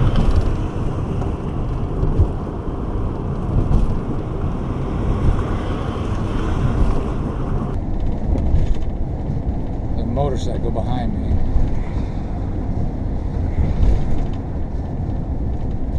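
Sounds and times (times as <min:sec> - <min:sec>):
vehicle engine and tyre rumble: 0:00.0 - 0:15.9
wind noise: 0:00.0 - 0:15.9.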